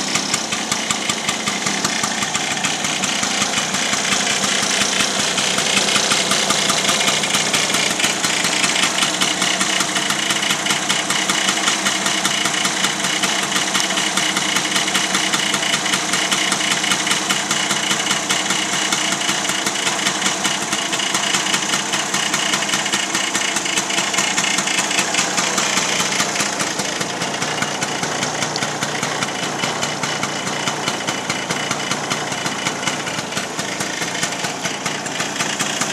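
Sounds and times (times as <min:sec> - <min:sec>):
scooter engine idling: 0:00.0 - 0:35.9.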